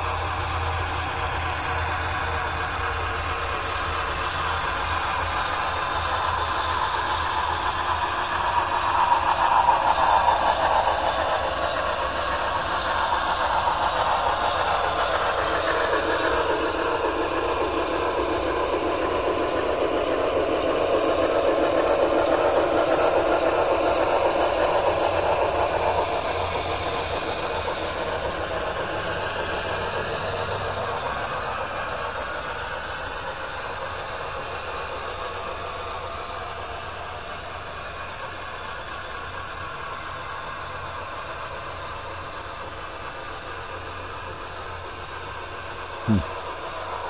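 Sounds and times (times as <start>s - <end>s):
model train whirring: 0.0s - 47.0s.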